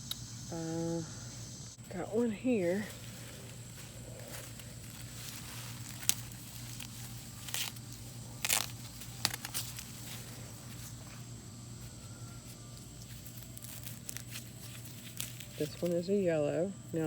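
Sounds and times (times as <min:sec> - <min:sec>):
dry corn husks crackling and tearing: 0:02.2 - 0:17.0.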